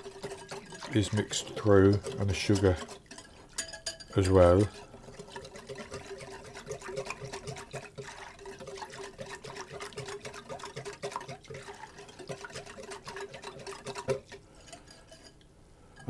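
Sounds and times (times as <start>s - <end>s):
liquid swishing in bowl: 0.0s - 15.4s.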